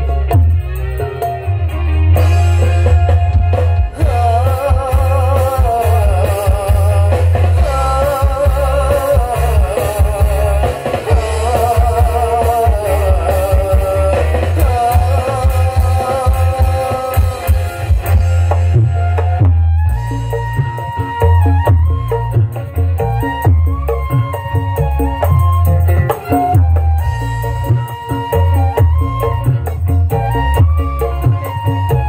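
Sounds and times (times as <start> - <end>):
deep heavy bass: 0.0 - 32.0.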